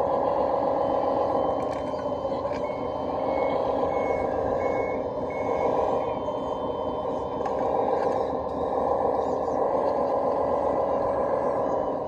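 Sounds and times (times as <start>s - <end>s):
reversing beeper: 0.0s - 9.6s, 10.5s - 12.0s
model machine running noise: 0.0s - 12.0s.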